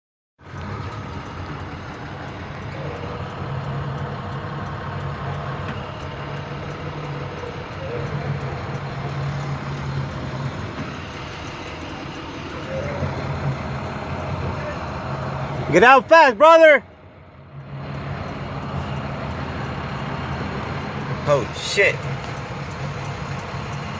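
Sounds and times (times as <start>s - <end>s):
vehicle engine humming: 0.4s - 23.9s.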